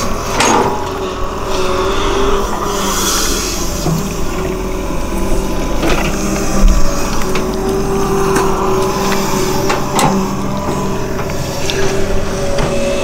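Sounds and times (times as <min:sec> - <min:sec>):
excavator diesel engine: 0:00.0 - 0:13.0
hydraulic whine: 0:00.0 - 0:13.0.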